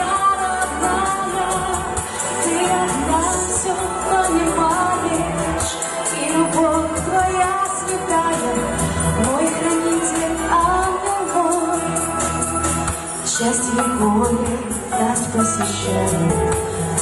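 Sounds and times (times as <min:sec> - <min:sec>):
woman singing a pop ballad: 0:00.0 - 0:17.0.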